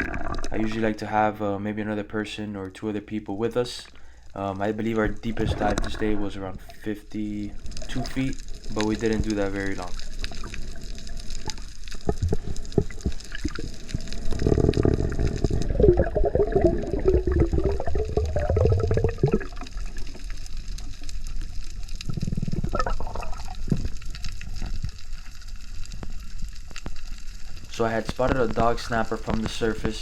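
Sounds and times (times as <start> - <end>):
water bubbling and churning: 0.0 - 1.0, 4.9 - 29.4
water gurgling: 0.0 - 1.6, 4.4 - 30.0.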